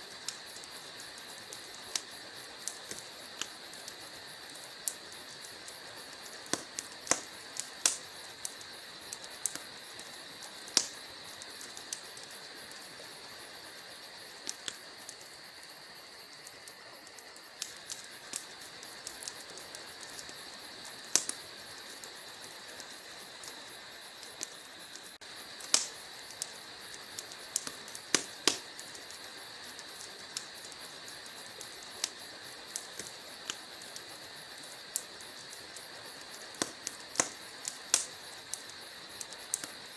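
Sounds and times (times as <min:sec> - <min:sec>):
burning logs crackling and popping: 0:00.0 - 0:39.9
wood fire hissing: 0:00.0 - 0:39.9.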